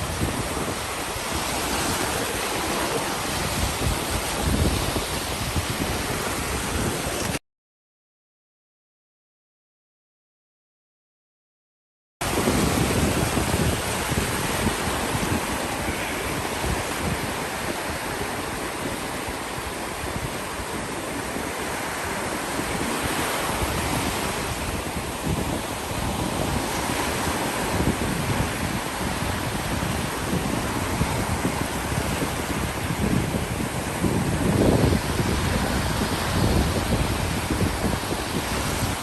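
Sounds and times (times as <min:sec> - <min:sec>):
ocean surf breaking: 0:00.0 - 0:07.4, 0:12.2 - 0:39.0
wind buffeting microphone: 0:00.0 - 0:07.4, 0:12.2 - 0:39.0.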